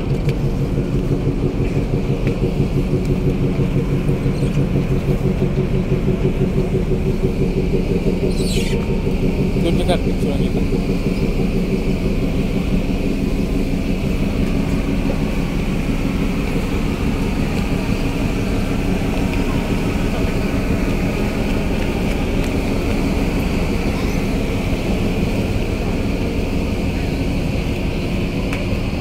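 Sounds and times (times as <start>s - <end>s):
ferry engines droning: 0.0s - 29.0s.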